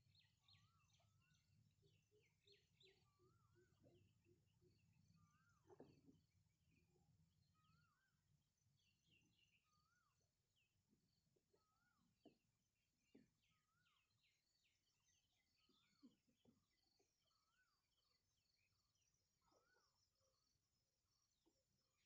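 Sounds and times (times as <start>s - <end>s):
birds chirping: 0.0s - 12.4s, 13.0s - 20.5s.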